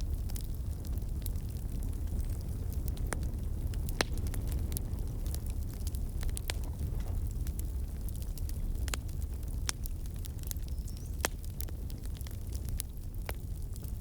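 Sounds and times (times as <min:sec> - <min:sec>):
fireplace fire crackling: 0:00.0 - 0:14.0
low rumble of flames: 0:00.0 - 0:14.0.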